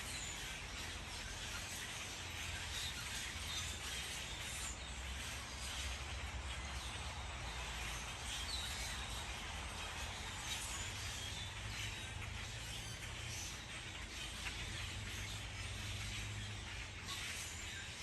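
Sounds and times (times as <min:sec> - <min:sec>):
steady hiss and low rumble: 0:00.0 - 0:18.0.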